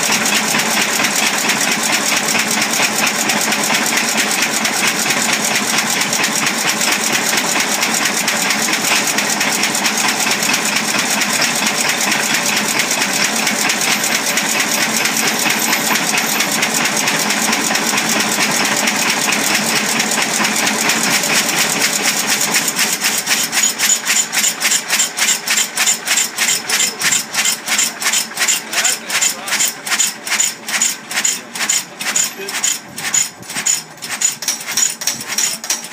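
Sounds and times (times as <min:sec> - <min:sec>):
stationary engine running: 0:00.0 - 0:35.9.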